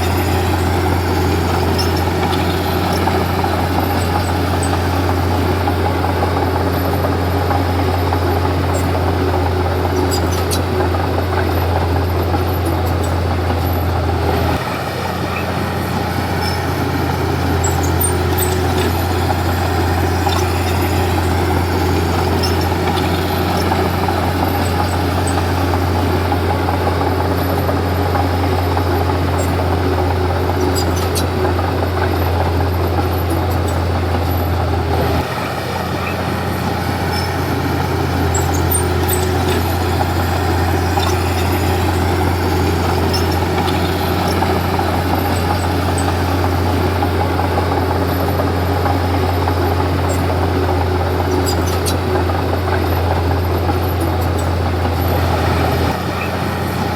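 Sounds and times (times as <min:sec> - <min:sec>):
bulldozer diesel engine droning: 0:00.0 - 0:56.9.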